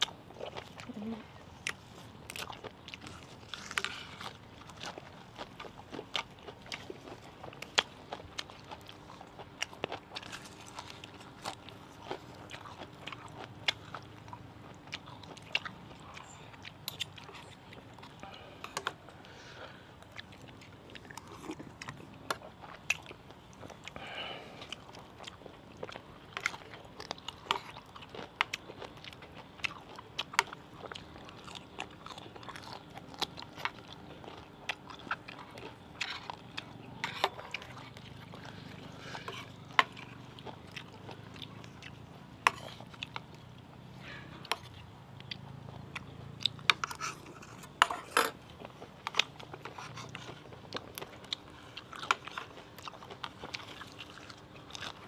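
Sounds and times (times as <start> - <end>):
person crunching and chewing leaves: 0.0 - 55.0.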